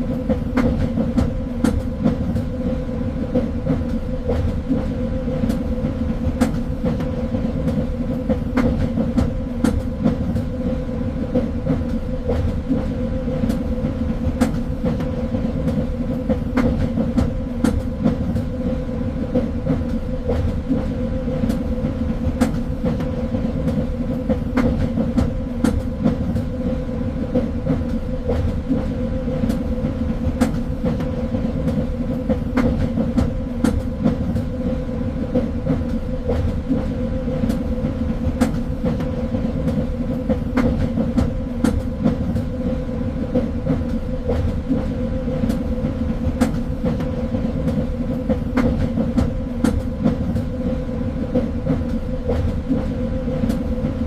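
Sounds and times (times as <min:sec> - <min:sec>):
train rumble and hum: 0:00.0 - 0:54.0
wheels clacking on track: 0:00.0 - 0:54.0.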